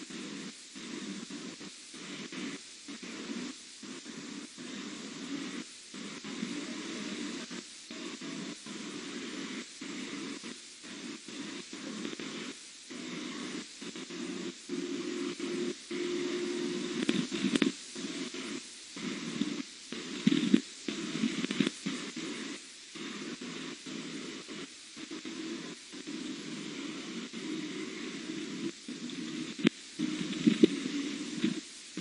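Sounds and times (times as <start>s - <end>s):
audio feed hiss and static: 0.0s - 32.0s.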